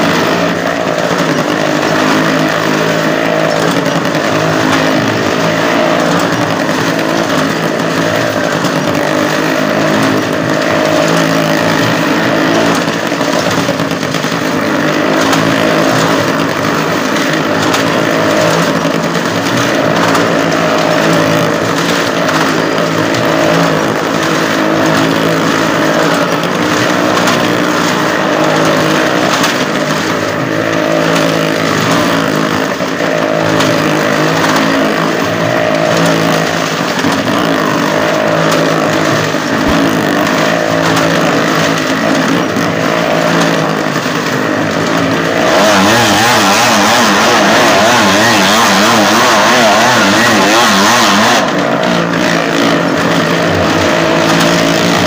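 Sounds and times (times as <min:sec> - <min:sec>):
motorcycle engine running loudly: 0:00.0 - 0:55.0.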